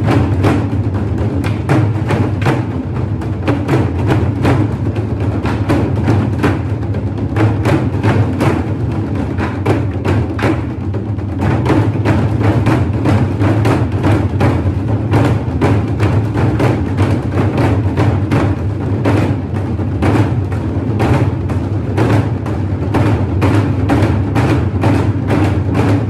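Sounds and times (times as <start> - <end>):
music with percussive beat: 0.0 - 26.0.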